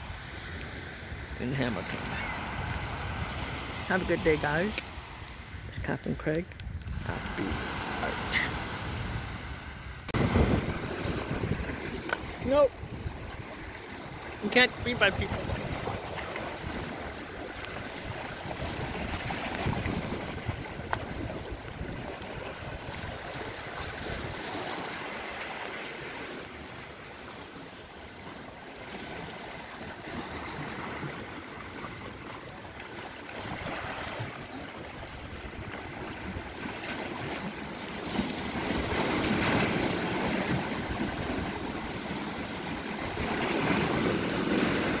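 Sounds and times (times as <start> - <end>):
waves lapping against rocks: 0.0 - 45.0.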